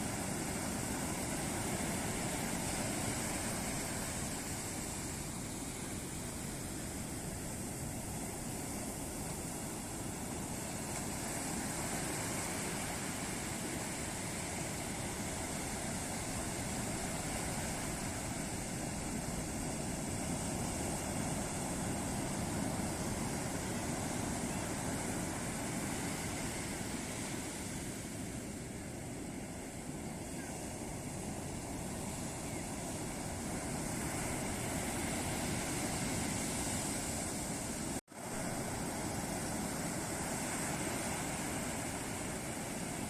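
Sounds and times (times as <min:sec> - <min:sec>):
ocean waves breaking on beach: 0:00.0 - 0:43.0.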